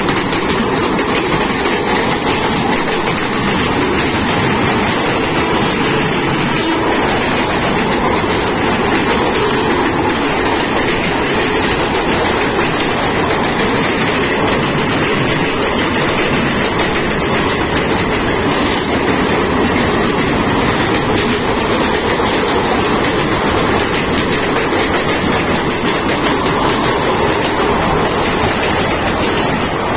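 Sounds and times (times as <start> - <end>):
trains rumbling on rails: 0.0 - 29.9
wheels clacking over rail joints: 0.0 - 29.9.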